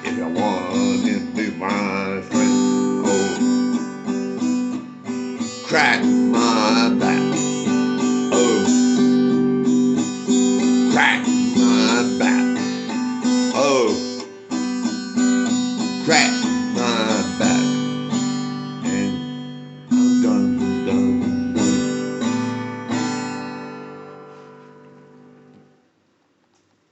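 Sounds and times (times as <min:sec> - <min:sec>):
acoustic guitar chords ringing: 0:00.0 - 0:26.0.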